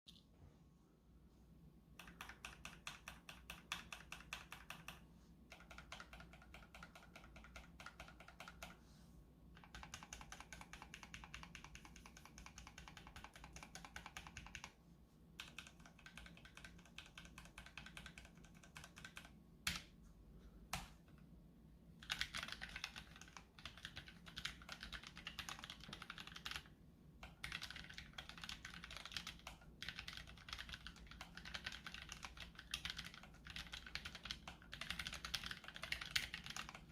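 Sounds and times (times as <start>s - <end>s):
keyboard typing: 2.0s - 8.8s, 9.6s - 14.8s, 15.4s - 20.0s, 22.0s - 36.9s.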